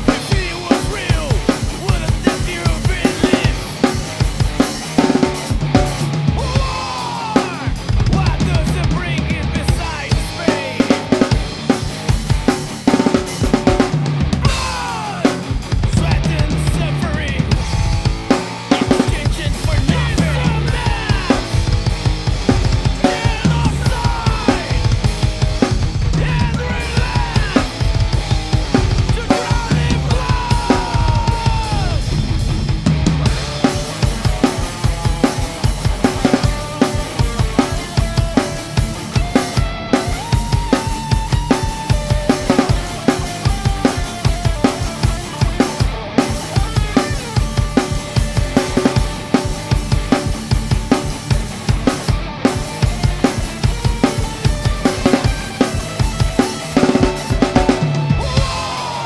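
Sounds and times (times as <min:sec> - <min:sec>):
electric guitar lines: 0:00.0 - 0:59.0
fast metal drumming: 0:00.0 - 0:59.0.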